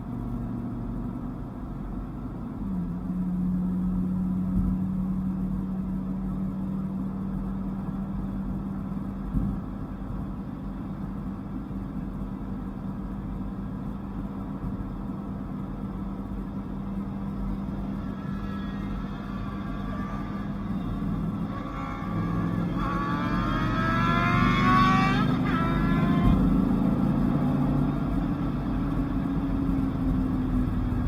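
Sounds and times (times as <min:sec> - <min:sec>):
car engine droning and revving: 0:00.0 - 0:31.0
road noise: 0:00.0 - 0:31.0.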